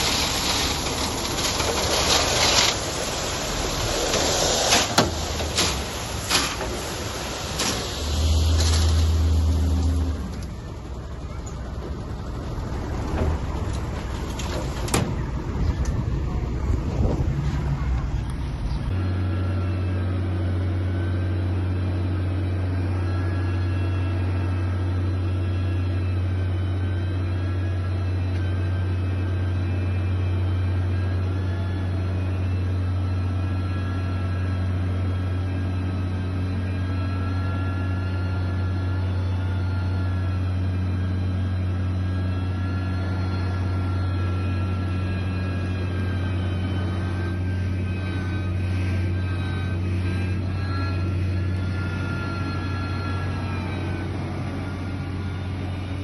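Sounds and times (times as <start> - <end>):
faint wavering whine: 0.0 - 56.0
heavy machinery diesel engine: 0.0 - 56.0.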